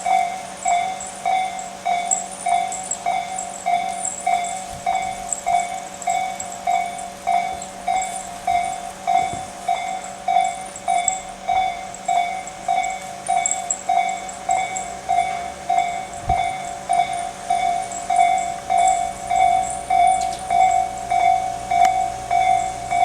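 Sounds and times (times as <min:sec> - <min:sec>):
level crossing warning bell: 0:00.0 - 0:23.0.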